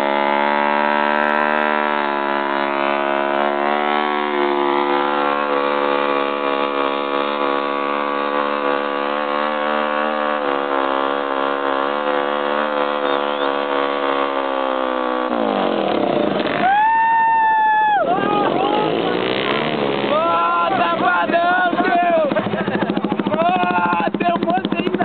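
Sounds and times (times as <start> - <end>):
motorcycle engine at high revs: 0.0 - 17.0, 18.1 - 25.0.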